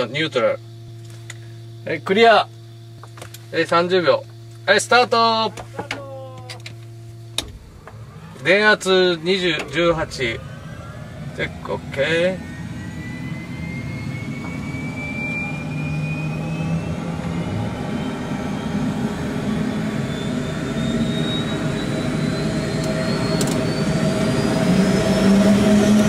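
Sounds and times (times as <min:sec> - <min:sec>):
low running hum: 0:00.0 - 0:26.0
helicopter engine whine rising: 0:03.6 - 0:26.0.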